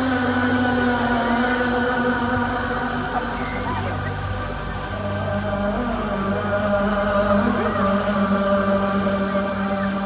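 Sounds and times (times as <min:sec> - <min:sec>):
music with choir-like voices: 0:00.0 - 0:10.0.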